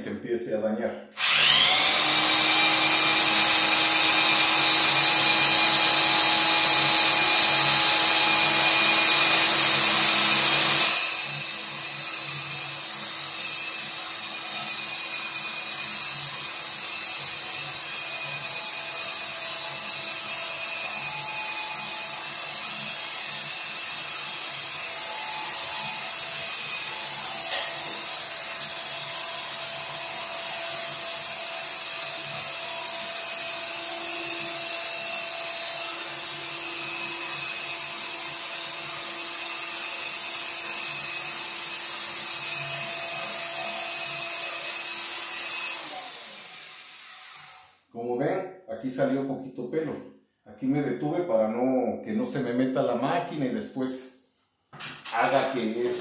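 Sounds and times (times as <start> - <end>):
electric drill motor whine: 1.2 - 47.8.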